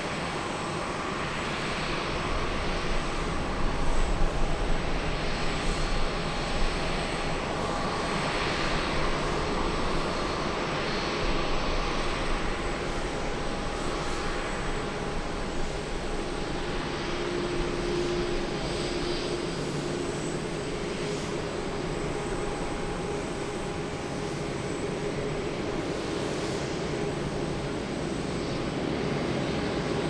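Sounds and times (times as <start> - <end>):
jet engines humming and whining: 0.0 - 30.0.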